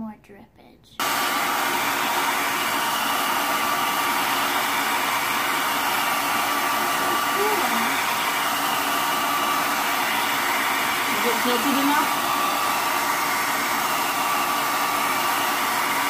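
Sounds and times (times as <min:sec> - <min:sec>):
hair dryer blowing: 0:01.0 - 0:16.0.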